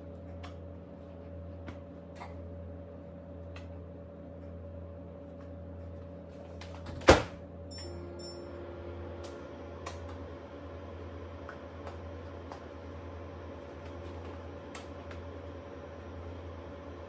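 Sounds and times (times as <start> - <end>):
microwave humming: 0.0 - 17.0.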